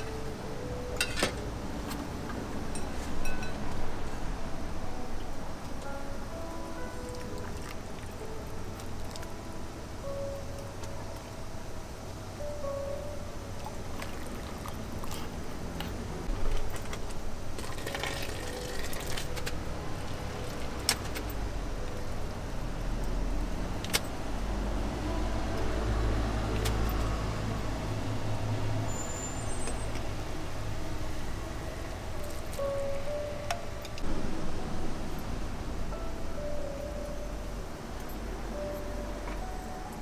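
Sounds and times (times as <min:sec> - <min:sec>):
vehicle engine rumble passing: 0:00.0 - 0:40.0.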